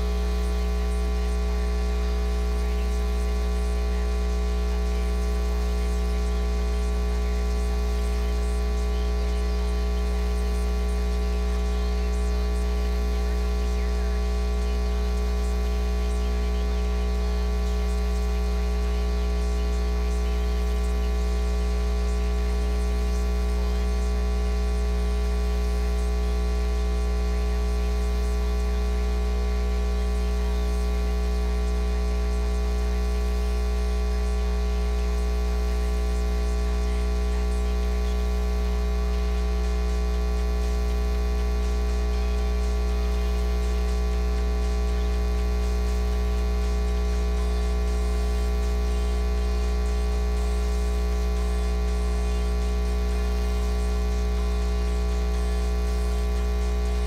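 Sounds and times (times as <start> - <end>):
electrical mains hum: 0.0 - 57.0
static crackle: 0.0 - 57.0.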